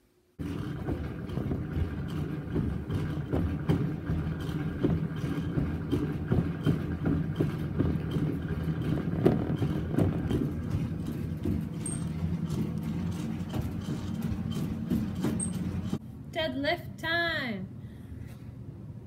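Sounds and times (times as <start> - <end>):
exercise bike mechanical hum: 0.4 - 19.0.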